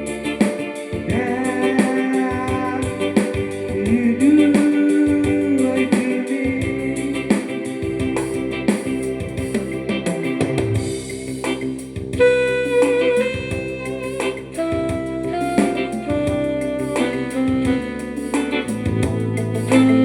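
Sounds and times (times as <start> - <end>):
light drum beat: 0.0 - 20.0.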